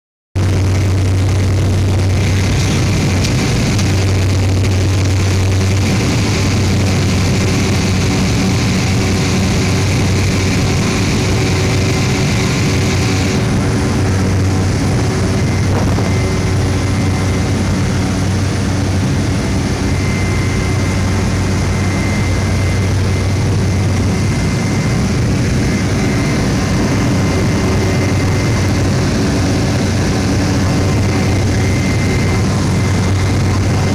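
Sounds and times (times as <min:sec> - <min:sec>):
turboprop engine drone: 0:00.4 - 0:33.9.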